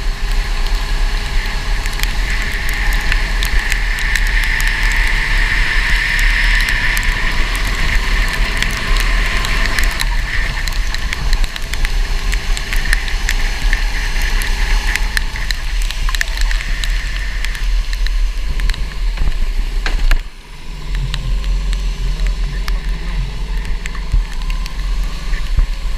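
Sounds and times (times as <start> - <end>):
go-kart engine rumble: 0.0 - 25.9
sharp engine crackles: 0.0 - 25.9.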